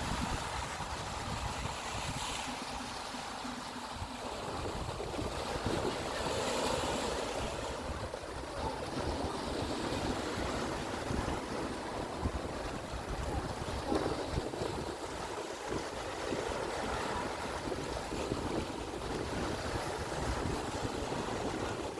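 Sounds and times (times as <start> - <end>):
wind buffeting microphone: 0.0 - 3.1, 3.8 - 21.9
sea water washing and splashing: 0.0 - 21.9.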